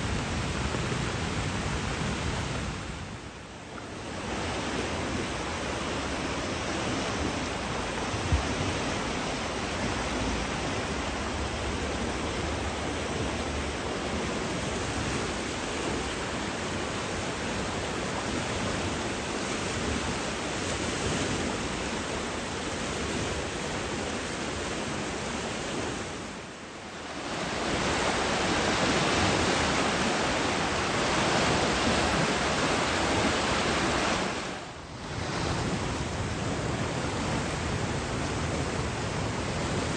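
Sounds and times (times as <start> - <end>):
stream rushing in flood: 0.0 - 39.9.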